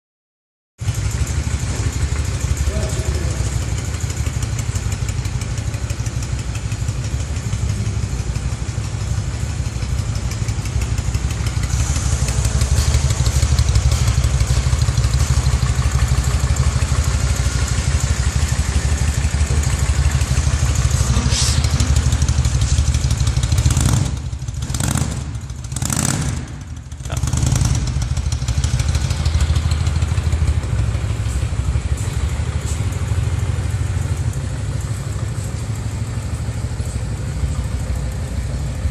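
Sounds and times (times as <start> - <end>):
motorcycle engine rumbling: 0.8 - 38.9.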